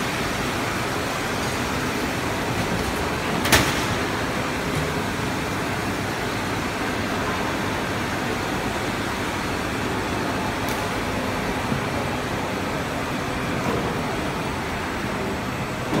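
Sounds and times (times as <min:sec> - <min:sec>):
extrusion line machine running: 0:00.0 - 0:16.0.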